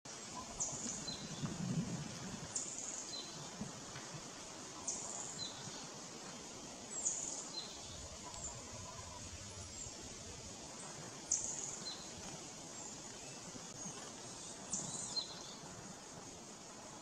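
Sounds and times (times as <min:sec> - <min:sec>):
steady outdoor hiss: 0:00.1 - 0:17.0.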